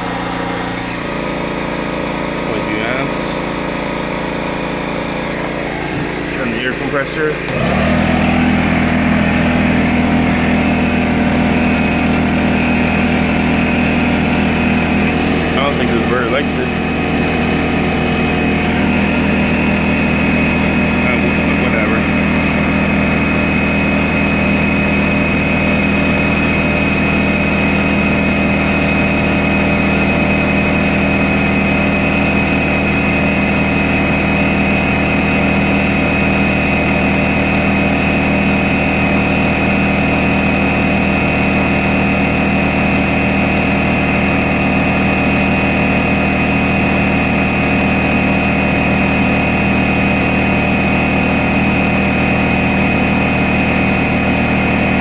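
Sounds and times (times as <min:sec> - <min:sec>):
air compressor running: 0:00.0 - 0:55.0
generator running: 0:00.0 - 0:55.0
high whine: 0:00.0 - 0:55.0.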